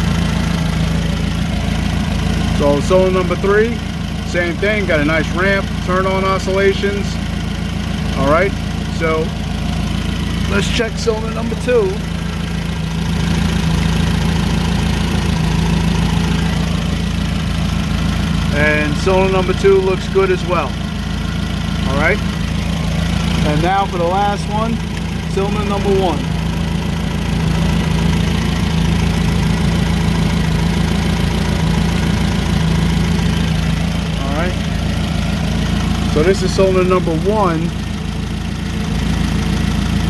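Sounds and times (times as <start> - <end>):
engine idling rough with misfire: 0.0 - 40.0.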